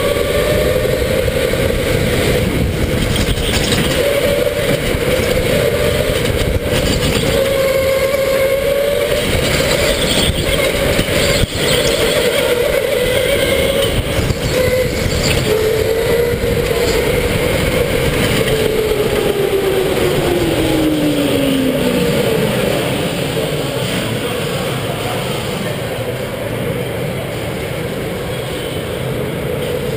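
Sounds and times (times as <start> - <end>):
chassis rumble and rattle: 0.7 - 25.5.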